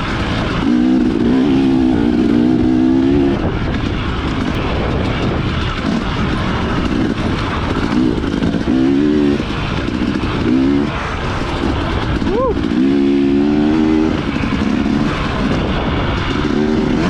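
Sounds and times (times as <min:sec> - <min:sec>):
dirt bike engine revving: 0:00.0 - 0:17.0
heavy rushing noise: 0:00.0 - 0:17.0.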